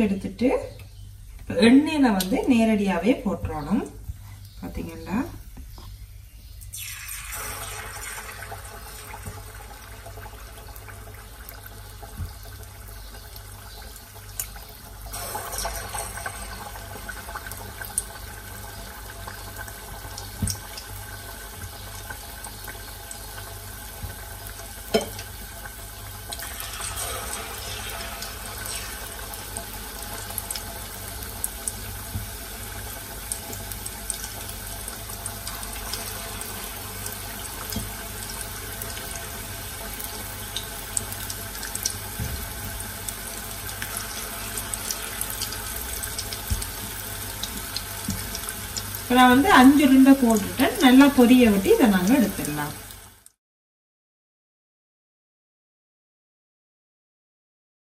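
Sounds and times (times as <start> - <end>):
oil sizzling and bubbling: 0.8 - 53.4.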